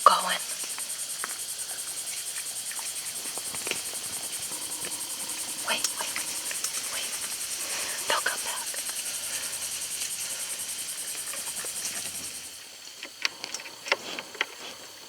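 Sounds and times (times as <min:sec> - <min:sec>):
night insects chirping: 0:00.0 - 0:15.0.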